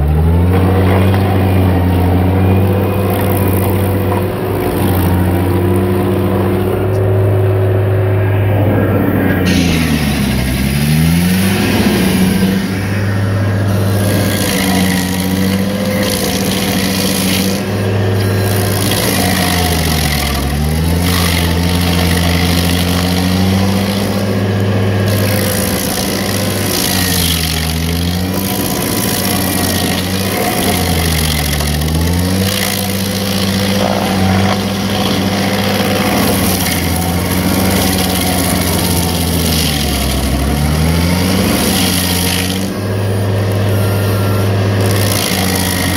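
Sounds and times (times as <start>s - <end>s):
stump grinder grinding wood: 0.0s - 45.9s.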